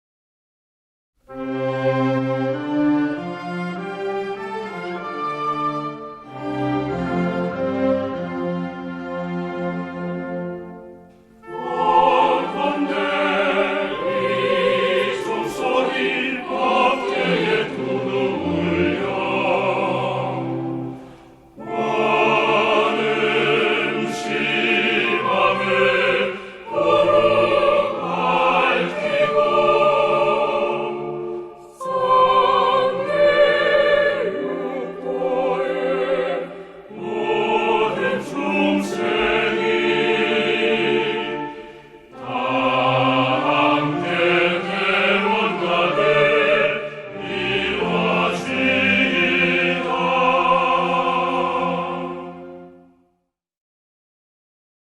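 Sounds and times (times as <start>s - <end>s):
choir singing a hymn: 1.3s - 53.0s
musical accompaniment: 1.3s - 53.2s.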